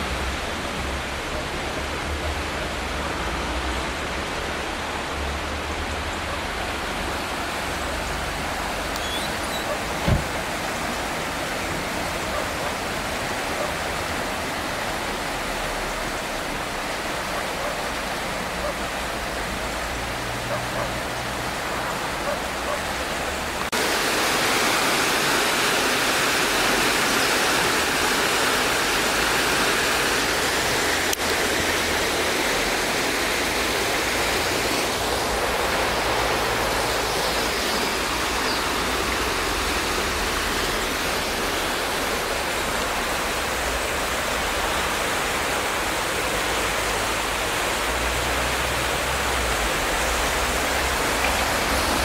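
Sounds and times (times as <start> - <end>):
river rushing in flood: 0.0 - 52.0.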